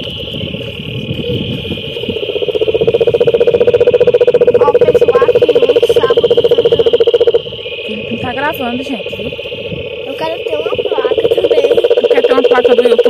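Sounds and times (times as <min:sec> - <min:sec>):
frog pulsed trill: 0:00.0 - 0:13.0
high-pitched insect chorus: 0:00.0 - 0:13.0
short frog chirps: 0:00.0 - 0:13.0.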